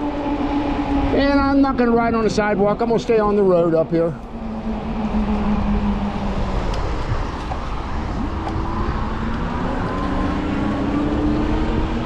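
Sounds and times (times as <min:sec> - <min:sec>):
passing cars droning: 0:00.0 - 0:12.0
road noise: 0:00.0 - 0:12.0
wind on microphone: 0:00.0 - 0:12.0.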